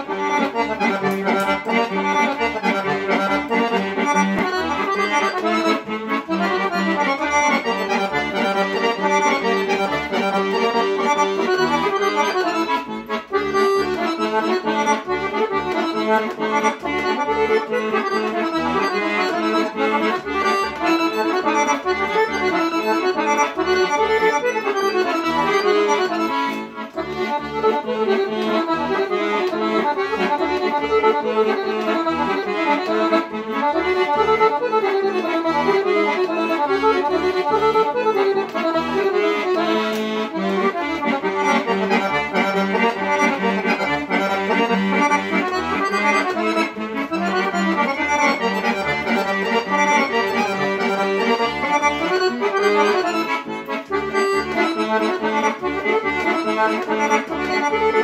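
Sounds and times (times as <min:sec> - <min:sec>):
accordion folk dance tune: 0:00.0 - 0:58.0.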